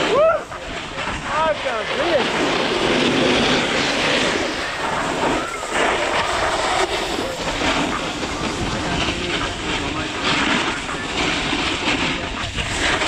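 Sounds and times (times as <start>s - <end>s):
snowboard scraping over snow: 0.0s - 13.0s
wind rushing over microphone: 0.0s - 13.0s.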